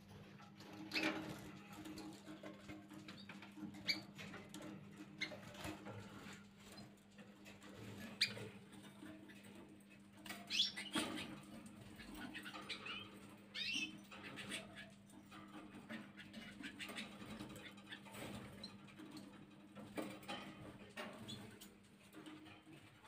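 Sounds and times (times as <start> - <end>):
canaries chirping: 0.0 - 22.8
birds hopping on cage bars: 0.0 - 23.0.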